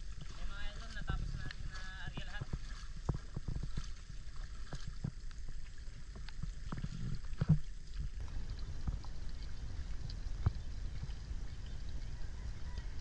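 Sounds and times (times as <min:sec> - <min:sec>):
water splashes: 0:00.0 - 0:13.0
wooden paddle strokes in water: 0:00.0 - 0:13.0.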